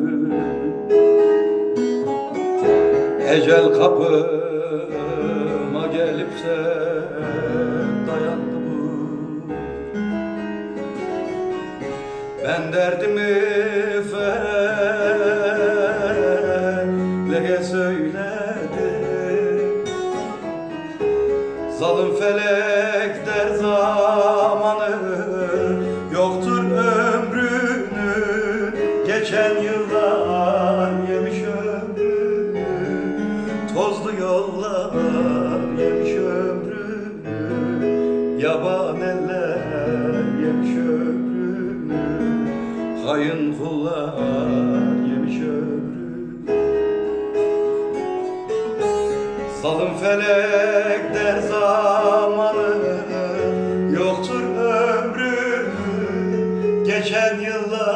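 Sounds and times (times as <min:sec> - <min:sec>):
man singing ornamented melody: 0:00.0 - 0:47.5, 0:48.6 - 0:57.9
instrumental accompaniment: 0:00.0 - 0:57.9.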